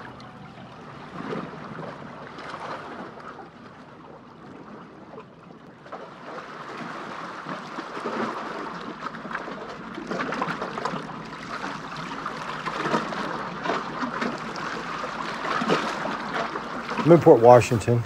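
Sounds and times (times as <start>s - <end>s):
waves lapping against rocks: 0.0s - 18.0s.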